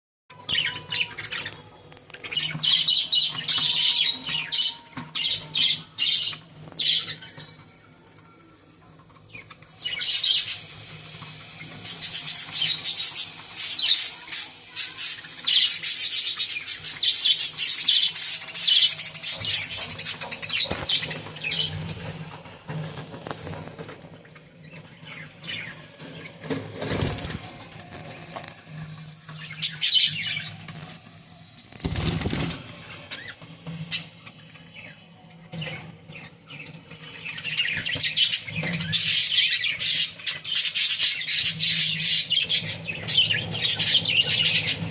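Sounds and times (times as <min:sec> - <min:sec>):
lovebirds chirping and chattering: 0:00.3 - 0:07.9, 0:08.6 - 0:30.9, 0:31.8 - 0:44.9.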